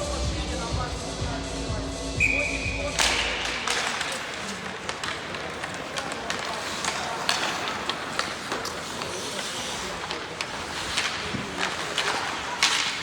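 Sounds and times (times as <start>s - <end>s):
skates scraping on ice: 0.0s - 13.0s
steady rink hiss: 0.0s - 13.0s
sticks and puck clacking: 0.0s - 13.0s.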